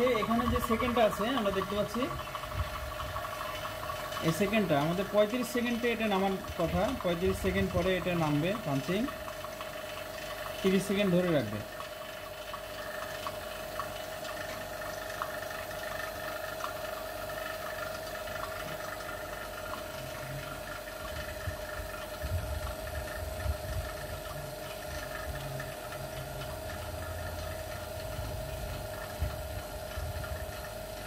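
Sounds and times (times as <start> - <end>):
laminating machine humming: 0.0 - 31.0.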